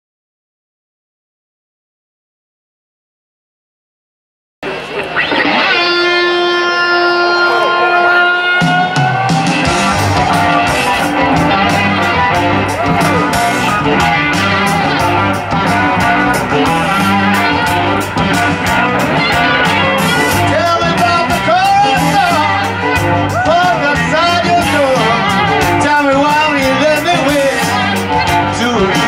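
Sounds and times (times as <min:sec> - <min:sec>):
rock band playing loudly: 0:04.6 - 0:29.0
slide guitar gliding notes: 0:04.6 - 0:29.0.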